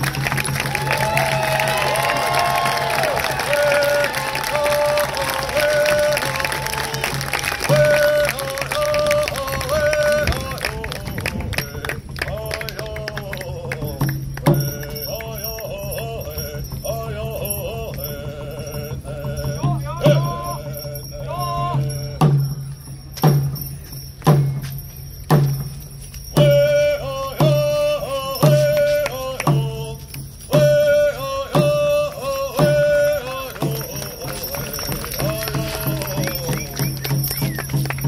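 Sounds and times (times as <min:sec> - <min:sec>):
drum beating: 0:00.0 - 0:38.0
person singing: 0:01.8 - 0:22.3, 0:26.4 - 0:37.2.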